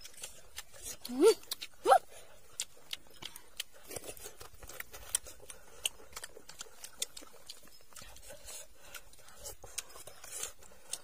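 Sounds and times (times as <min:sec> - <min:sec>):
chewing crunches: 0:00.0 - 0:11.0.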